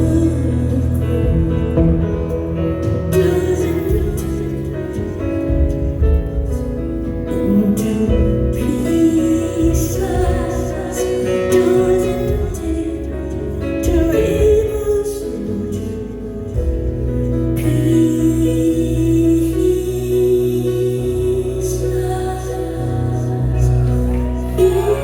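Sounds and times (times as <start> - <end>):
woman singing: 0.0 - 25.0.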